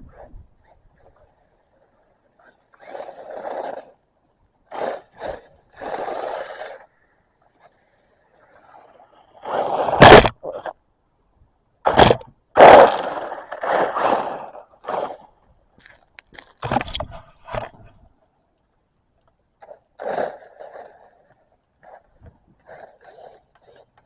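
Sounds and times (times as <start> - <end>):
toy car tyres scraping ground: 0.0 - 10.8, 11.8 - 18.3, 19.3 - 24.0.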